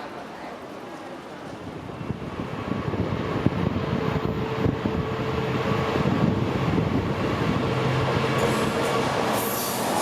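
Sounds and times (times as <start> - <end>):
train rumble and wheel clatter: 0.0 - 10.0.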